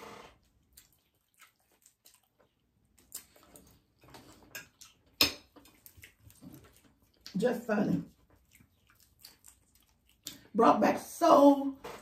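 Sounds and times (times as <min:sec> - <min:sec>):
people chewing crispy chicken: 0:00.2 - 0:10.6.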